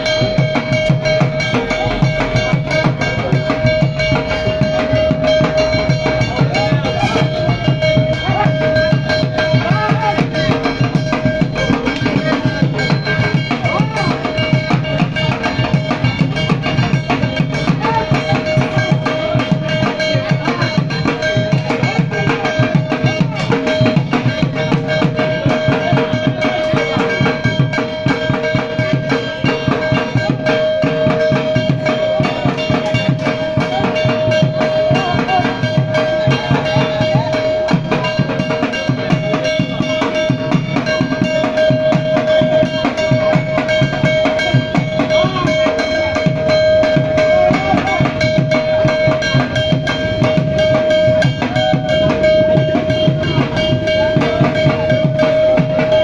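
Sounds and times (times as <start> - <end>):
fast drumming: 0.0 - 56.0
steady ringing tone: 0.0 - 56.0.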